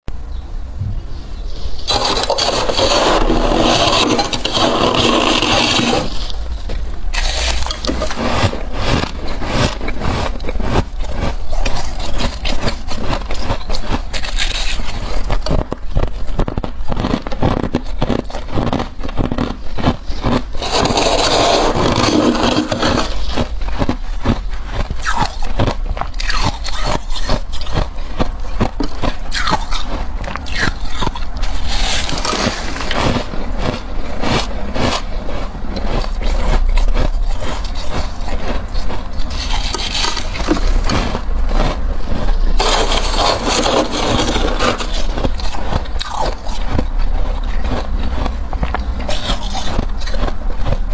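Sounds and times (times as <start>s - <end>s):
frost scraped off freezer wall: 1.8s - 29.6s, 30.5s - 50.8s.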